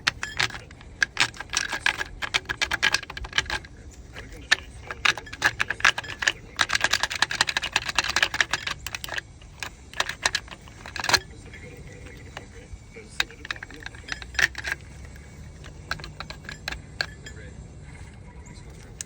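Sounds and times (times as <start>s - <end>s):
ratchet wrench clicking: 0.0s - 17.4s.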